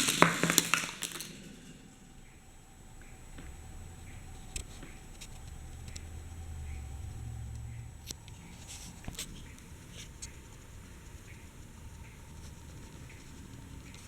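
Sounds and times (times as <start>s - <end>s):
low rumble: 1.7s - 13.8s.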